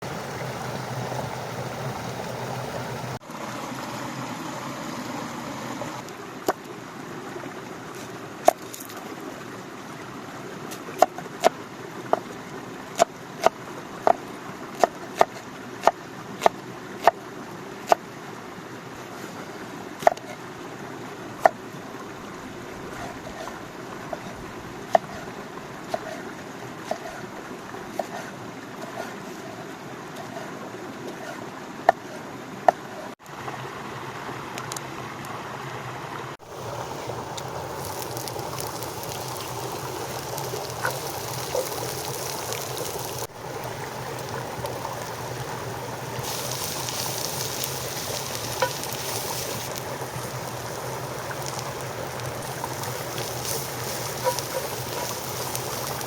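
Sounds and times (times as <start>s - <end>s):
flowing water: 0.0s - 56.0s.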